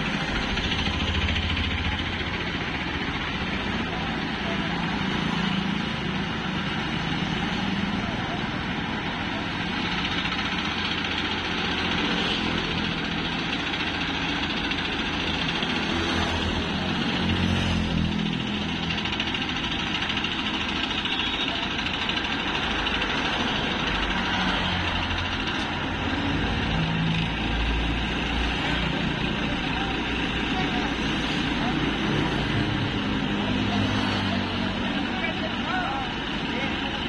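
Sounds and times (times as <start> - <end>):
crane diesel engine running: 0.0 - 37.0.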